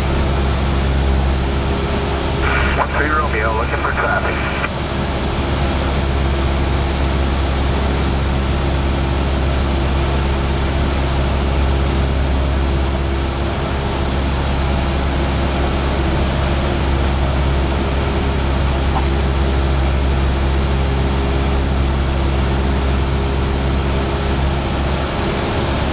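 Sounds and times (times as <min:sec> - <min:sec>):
airplane engine and propeller droning: 0:00.0 - 0:25.9.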